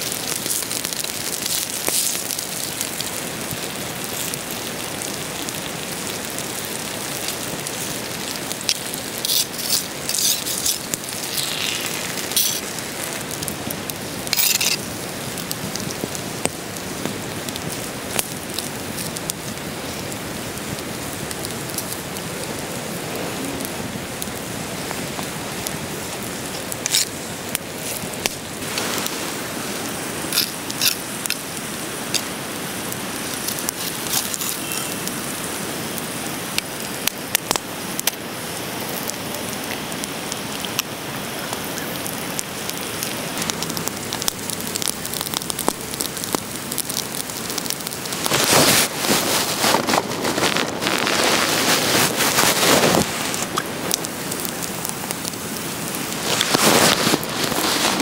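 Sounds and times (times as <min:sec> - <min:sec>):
campfire crackling and popping: 0:00.0 - 0:58.0
food sizzling on hot stone: 0:00.0 - 0:58.0.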